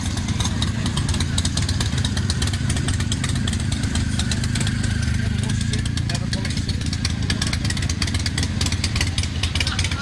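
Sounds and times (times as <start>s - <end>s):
motorcycle engines running: 0.0s - 10.0s.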